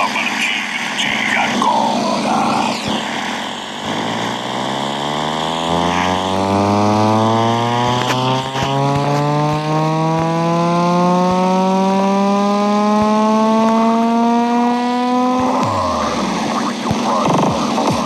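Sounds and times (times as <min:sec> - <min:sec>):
buzzing engine-like tone rising: 0:00.0 - 0:18.0.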